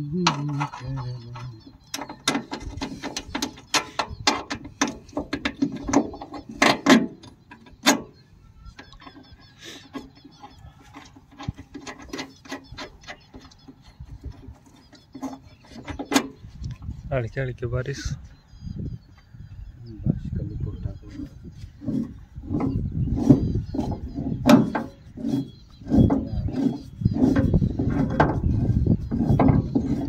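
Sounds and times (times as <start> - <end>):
metal clicks and clanks: 0.2 - 16.8, 21.8 - 30.0.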